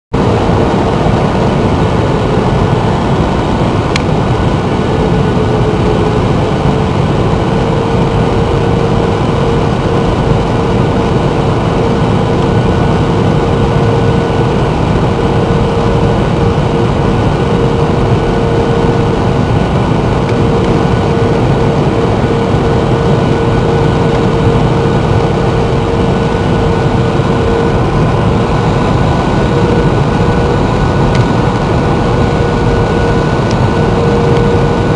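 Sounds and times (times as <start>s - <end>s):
airliner cabin noise: 0.1s - 34.9s.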